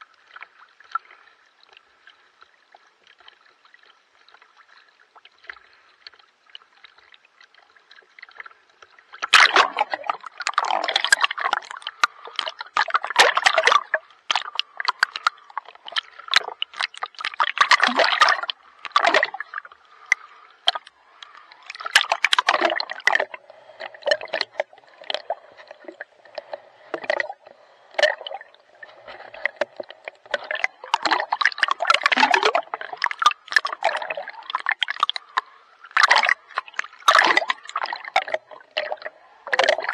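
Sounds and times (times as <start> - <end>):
water splashing from swimming: 0.0 - 39.9.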